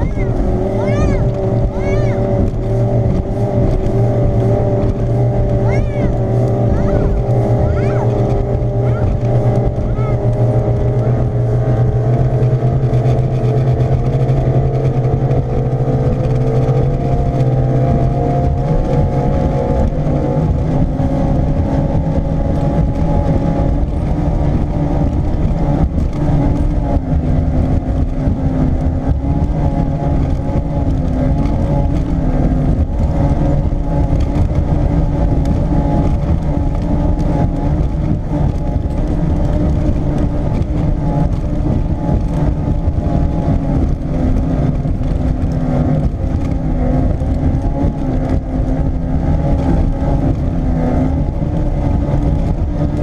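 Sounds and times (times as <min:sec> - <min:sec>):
outboard motor running at speed: 0:00.0 - 0:53.0.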